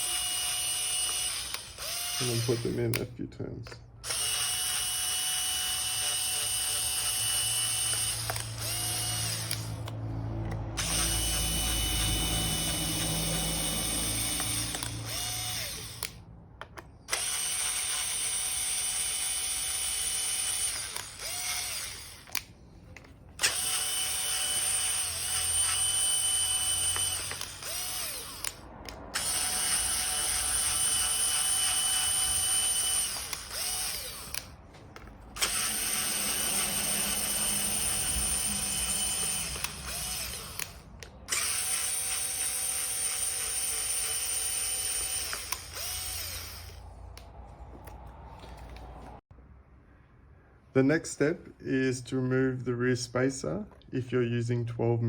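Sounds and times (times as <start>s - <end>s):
cordless drill driving screws: 0.0s - 3.1s, 4.0s - 46.9s.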